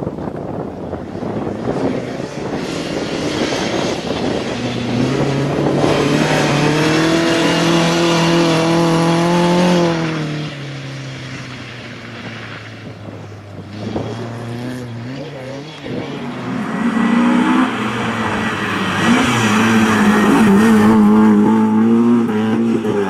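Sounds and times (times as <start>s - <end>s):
distant engine: 0.4s - 23.0s
rally car engine at high revs: 0.9s - 23.0s.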